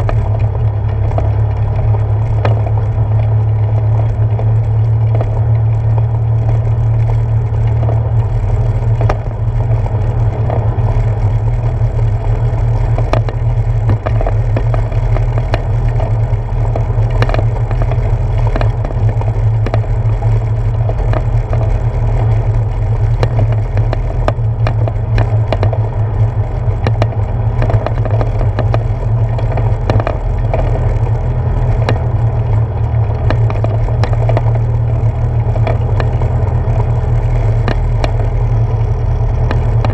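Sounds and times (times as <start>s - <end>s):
bicycle tyres rumbling on boards: 0.0s - 39.9s
wheels clacking over board joints: 0.0s - 39.9s.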